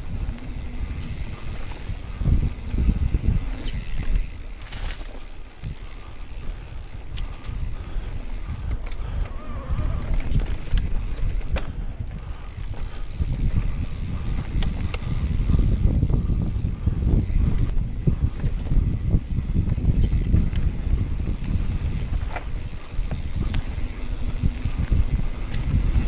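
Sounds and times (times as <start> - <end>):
bike clicks and rattles: 0.0 - 26.0
bike tyres rumbling on dirt: 0.0 - 26.0
wind buffeting microphone: 0.0 - 26.0.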